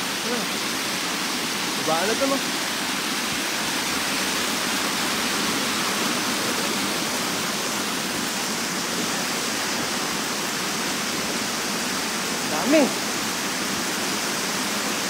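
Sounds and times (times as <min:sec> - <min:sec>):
river water rushing over stones: 0:00.0 - 0:15.0.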